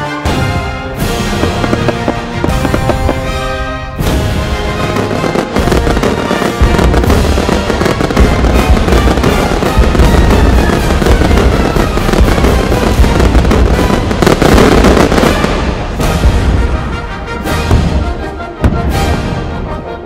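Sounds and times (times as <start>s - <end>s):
fireworks banging and crackling: 0.0s - 19.4s
loud music: 0.0s - 20.0s.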